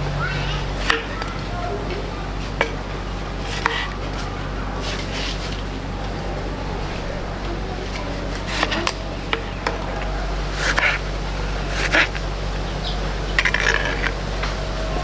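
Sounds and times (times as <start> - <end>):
steady low hum: 0.0 - 15.0
light clicks and scrapes: 0.8 - 12.7, 13.3 - 14.8.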